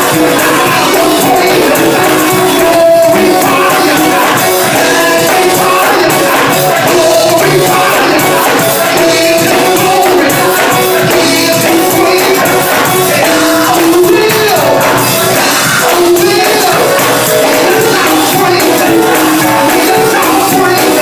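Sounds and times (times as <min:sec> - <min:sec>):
gospel choir singing: 0:00.0 - 0:21.0
hand clapping: 0:00.0 - 0:21.0.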